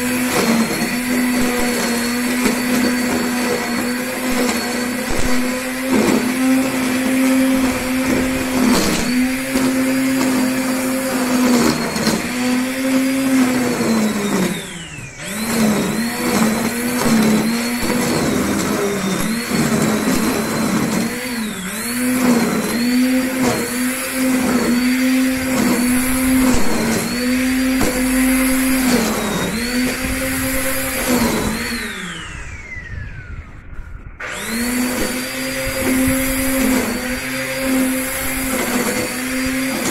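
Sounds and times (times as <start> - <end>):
electric string trimmer cutting grass: 0.0 - 39.9.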